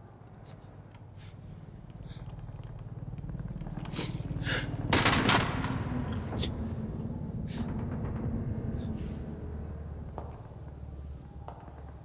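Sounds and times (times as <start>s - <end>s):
low rumbling drone: 0.6s - 12.0s.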